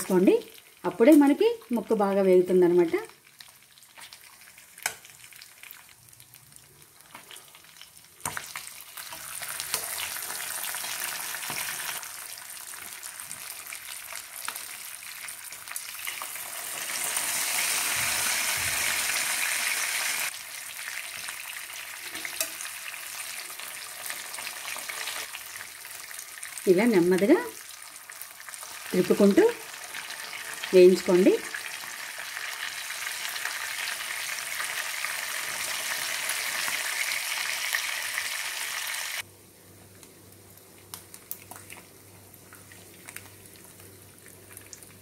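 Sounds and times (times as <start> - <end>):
fish sizzling in oil: 2.7 - 39.2.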